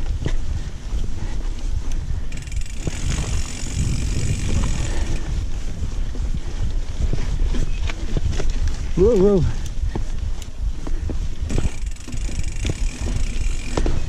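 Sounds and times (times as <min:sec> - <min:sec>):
bike knocking and rattling: 0:00.0 - 0:14.0
wind buffeting microphone: 0:00.0 - 0:14.0.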